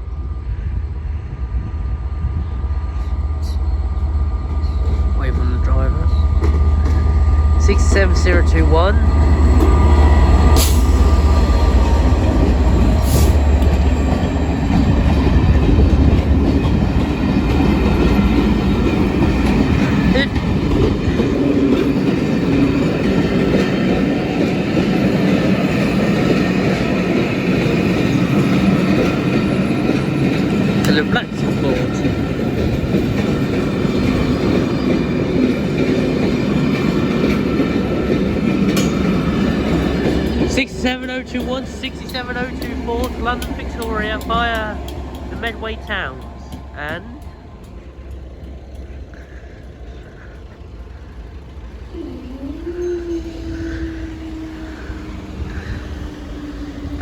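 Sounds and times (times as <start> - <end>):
diesel locomotive engine rumble: 0.0 - 57.0
wheels rolling on rail: 0.0 - 57.0.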